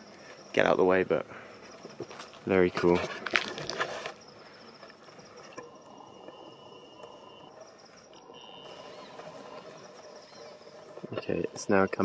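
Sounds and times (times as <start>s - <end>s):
high pulsing insect trill: 0.0s - 12.0s
lower insect trill: 0.0s - 12.0s.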